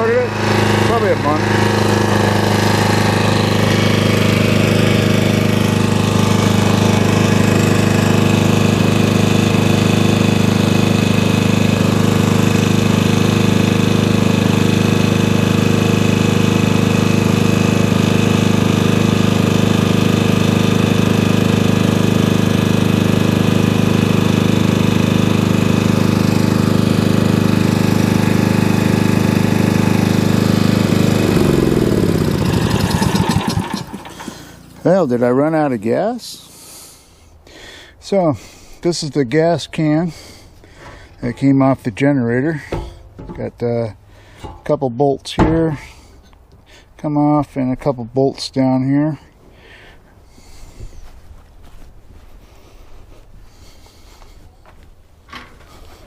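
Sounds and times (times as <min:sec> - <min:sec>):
small generator engine running: 0:00.0 - 0:44.9, 0:49.0 - 0:51.1, 0:53.5 - 0:54.8.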